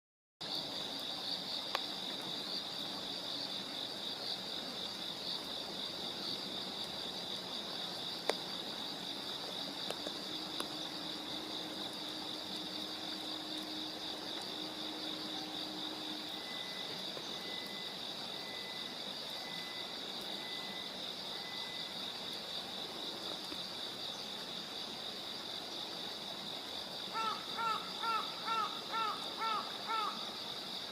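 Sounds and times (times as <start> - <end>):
crickets trilling: 0.4 - 30.9.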